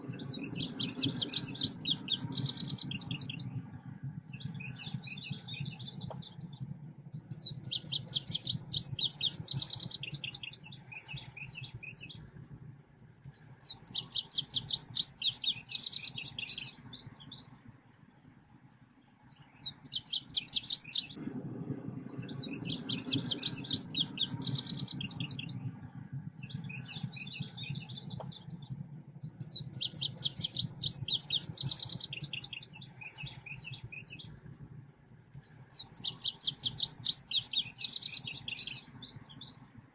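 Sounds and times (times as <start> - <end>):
steady low hum: 0.0 - 19.2, 21.2 - 39.9
songbird chirping: 0.0 - 39.9.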